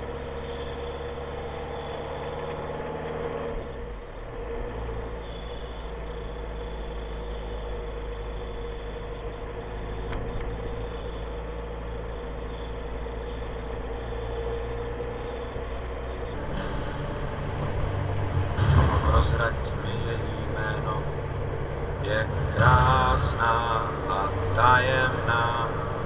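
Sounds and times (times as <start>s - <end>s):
car engine and tyre noise: 0.0s - 26.0s
faint high-pitched tone: 5.0s - 26.0s.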